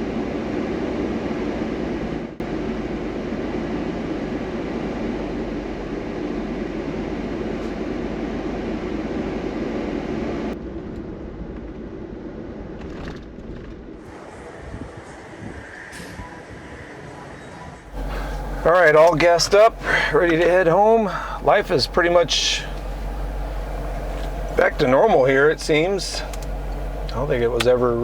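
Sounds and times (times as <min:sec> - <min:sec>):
road and engine noise in car cabin: 0:00.0 - 0:13.0, 0:17.9 - 0:28.0.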